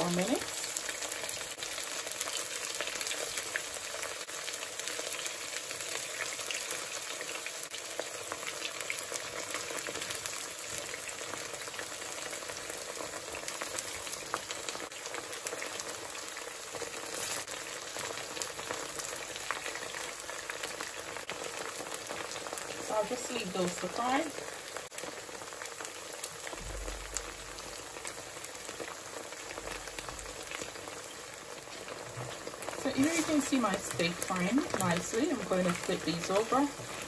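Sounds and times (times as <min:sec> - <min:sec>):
steak sizzling in oil: 0:00.0 - 0:37.0.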